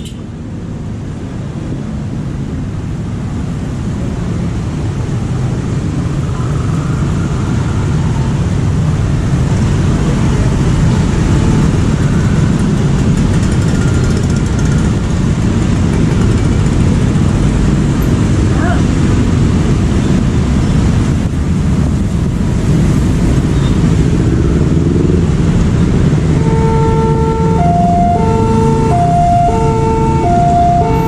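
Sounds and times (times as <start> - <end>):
motorcycles and cars driving past: 0.0 - 31.0.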